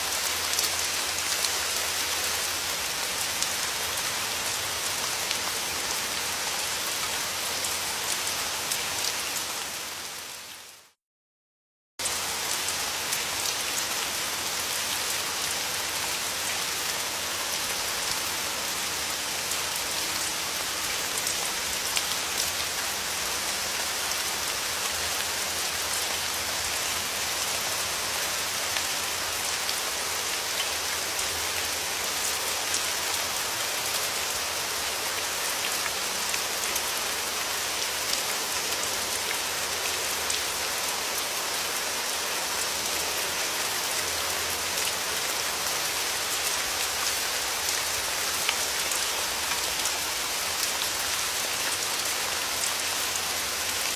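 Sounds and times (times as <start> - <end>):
steady rain falling: 0.0 - 11.0, 12.0 - 53.9.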